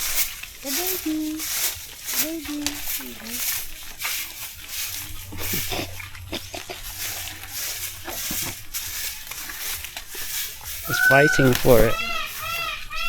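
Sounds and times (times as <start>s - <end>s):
goats chewing with crunching clicks: 0.0s - 13.0s
leaves rustling: 0.0s - 13.0s.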